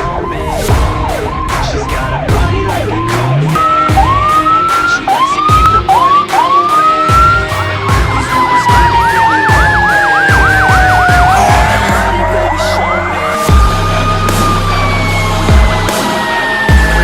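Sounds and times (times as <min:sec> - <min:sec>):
fire truck sirens: 0:00.0 - 0:17.0.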